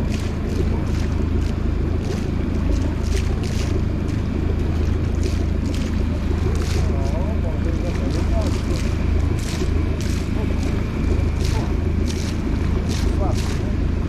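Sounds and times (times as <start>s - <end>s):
boat engine running: 0.0s - 14.0s
water noise: 0.0s - 14.0s
wind: 0.0s - 14.0s.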